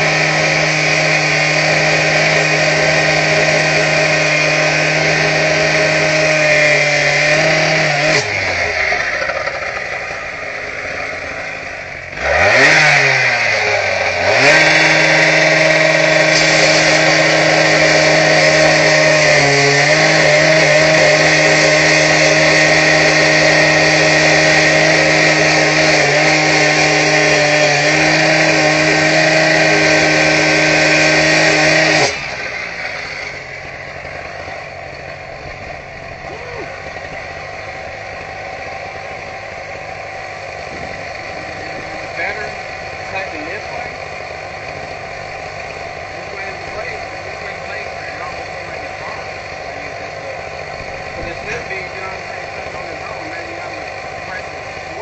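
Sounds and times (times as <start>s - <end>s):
angle grinder cutting mortar: 0.0s - 55.0s.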